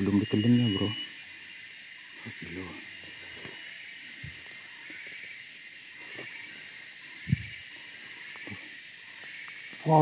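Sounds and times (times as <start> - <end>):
insect chorus hiss: 0.0 - 10.0.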